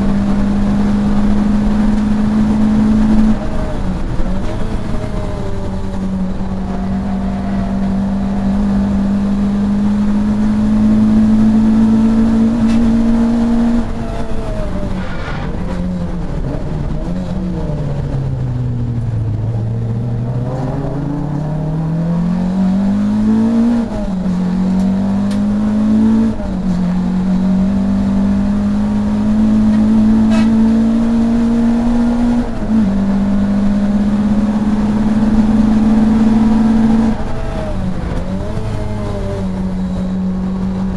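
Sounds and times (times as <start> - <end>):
gear changes: 0.0 - 40.9
race car engine at full throttle: 0.0 - 40.9.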